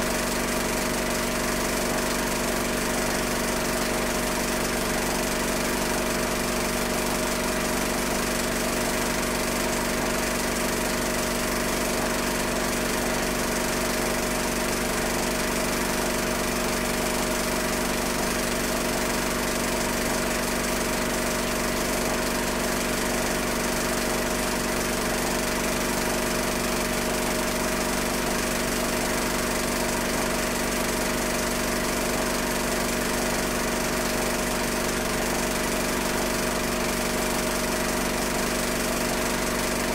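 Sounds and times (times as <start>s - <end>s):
film projector motor running: 0.0s - 39.9s.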